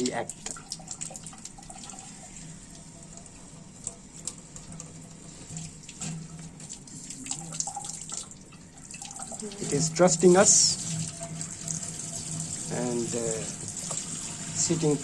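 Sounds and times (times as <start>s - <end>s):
water splashing in a bucket: 0.0s - 15.0s.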